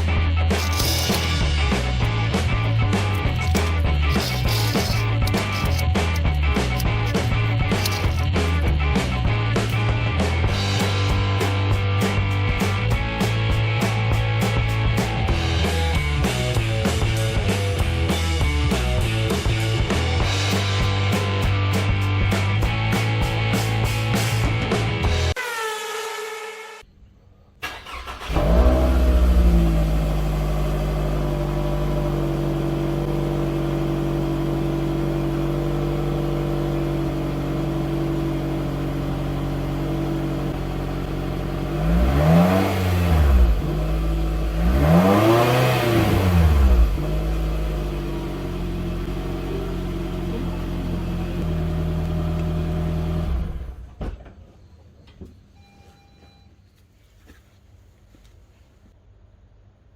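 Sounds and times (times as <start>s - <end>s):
car engine idling and revving: 0.0s - 25.3s, 27.6s - 54.3s.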